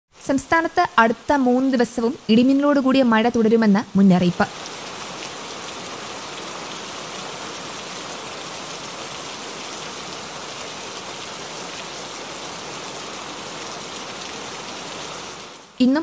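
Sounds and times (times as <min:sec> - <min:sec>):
heavy rain: 0:00.2 - 0:16.0.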